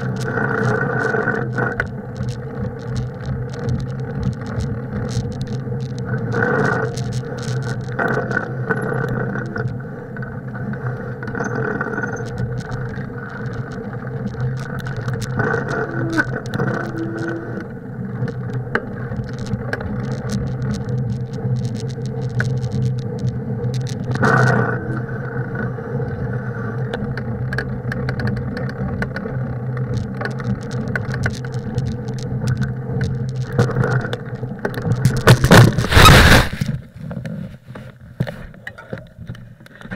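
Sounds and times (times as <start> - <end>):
bicycle tyres rolling over snow: 0.0 - 39.9
bike rattling and clicking: 0.0 - 39.9.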